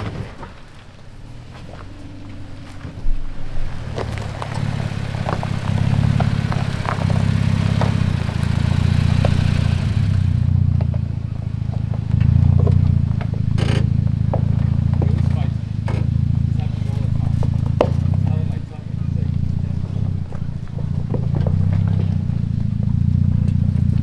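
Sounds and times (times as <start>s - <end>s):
off-road engine running under load: 0.0s - 24.0s
rock clicking and scraping under tyres: 0.0s - 24.0s.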